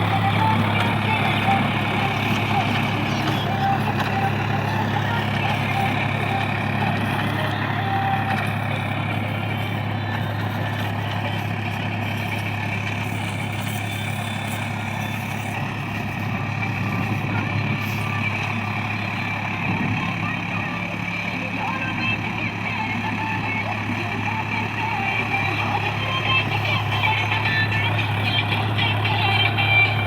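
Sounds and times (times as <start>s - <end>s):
tractor engine droning: 0.0s - 30.0s.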